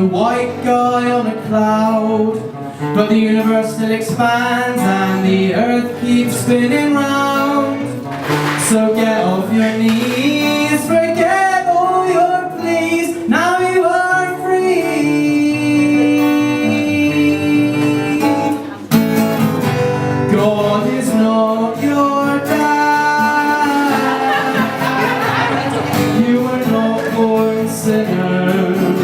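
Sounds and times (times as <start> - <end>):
man singing: 0.0 - 18.9, 19.7 - 29.0
acoustic guitar: 0.0 - 29.0.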